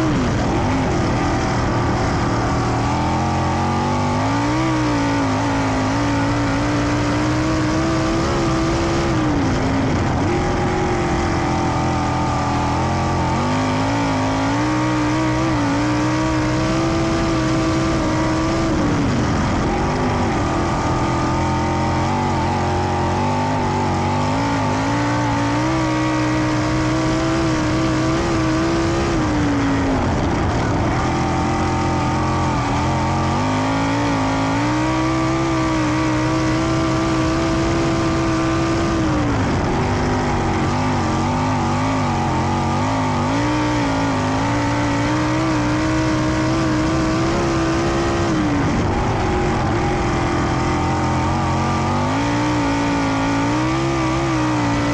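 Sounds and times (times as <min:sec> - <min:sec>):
racing car engine: 0:00.0 - 0:54.9.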